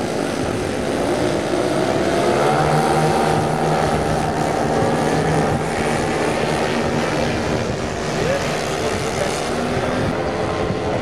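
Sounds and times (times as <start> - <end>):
model aircraft engines running: 0.0 - 11.0.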